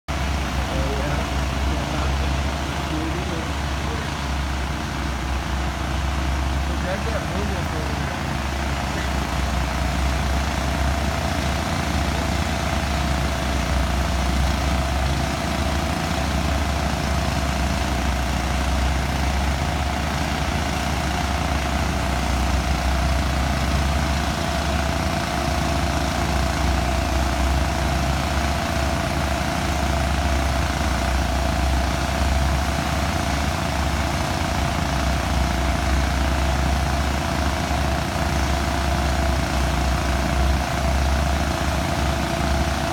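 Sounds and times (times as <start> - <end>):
crane engine droning: 0.1 - 42.9.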